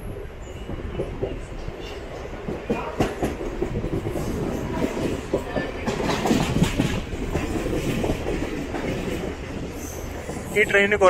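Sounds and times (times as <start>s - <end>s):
wheels rumbling on rails: 0.0s - 11.0s.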